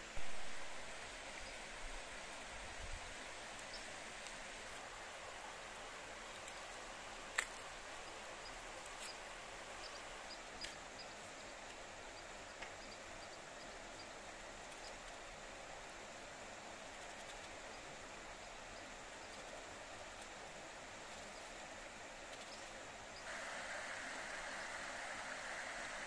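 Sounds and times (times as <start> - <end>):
river flowing: 0.0 - 26.0.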